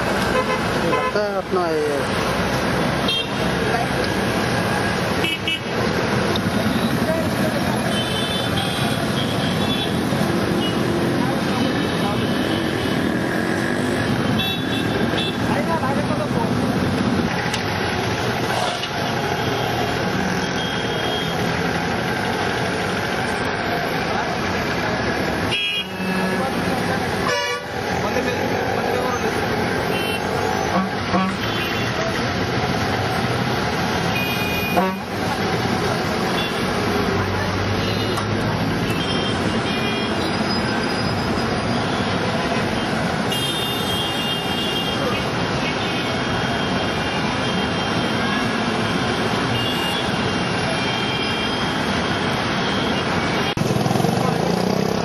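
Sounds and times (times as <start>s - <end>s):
dense traffic engine rumble: 0.0s - 55.0s.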